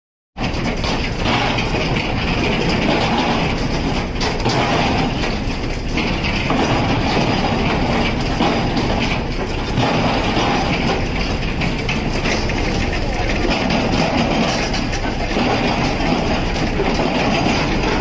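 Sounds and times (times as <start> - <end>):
deck machinery rumbling and rattling: 0.4 - 18.0.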